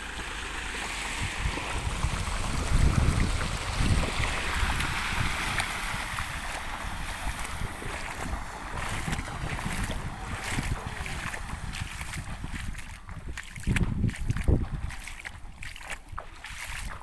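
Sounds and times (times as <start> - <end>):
water rushing around vehicle: 0.0 - 17.0
wind buffeting microphone: 1.0 - 17.0.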